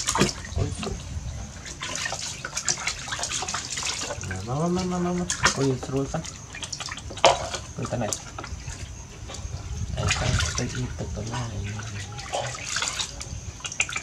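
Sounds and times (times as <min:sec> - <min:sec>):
water splashing in a plastic basin: 0:00.0 - 0:14.0.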